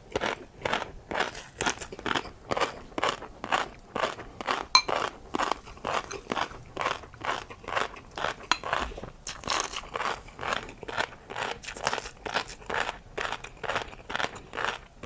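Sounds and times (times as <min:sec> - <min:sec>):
crisp crunching chews: 0:00.0 - 0:15.0.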